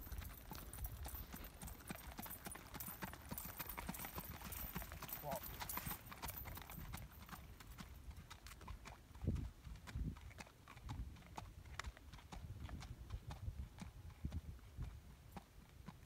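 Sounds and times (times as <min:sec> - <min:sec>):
horse hooves on dirt: 0:00.0 - 0:16.0.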